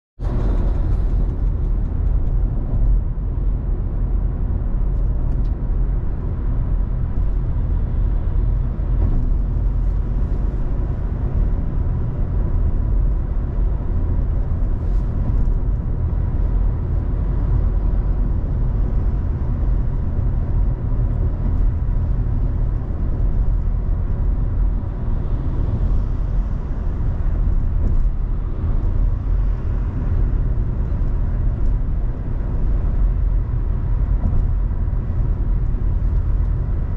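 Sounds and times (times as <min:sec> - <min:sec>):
car engine and tyre rumble: 0:00.2 - 0:36.9.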